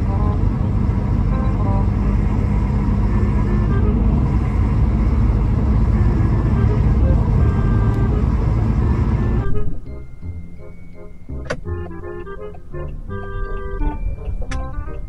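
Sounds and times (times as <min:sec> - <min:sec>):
car interior road and engine rumble: 0:00.0 - 0:15.0.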